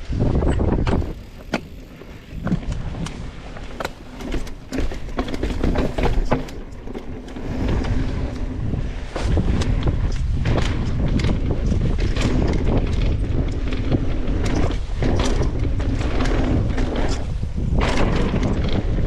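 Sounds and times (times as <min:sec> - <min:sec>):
clicks and rattles of bike: 0:00.0 - 0:19.0
tyres and wind rumbling: 0:00.0 - 0:19.0.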